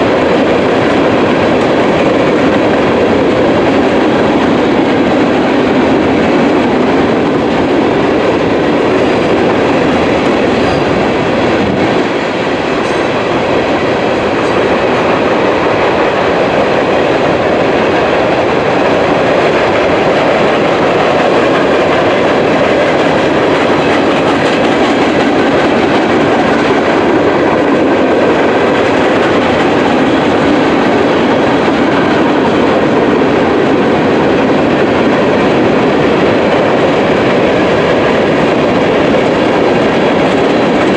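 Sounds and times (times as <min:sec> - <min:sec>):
freight train rolling past: 0:00.0 - 0:40.9
wheels clickety-clack on rail: 0:00.0 - 0:40.9.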